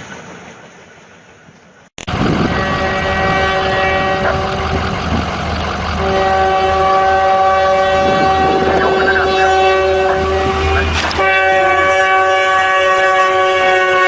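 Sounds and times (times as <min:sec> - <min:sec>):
rumble of moving train: 0:00.0 - 0:14.0
locomotive air horn: 0:02.1 - 0:14.0.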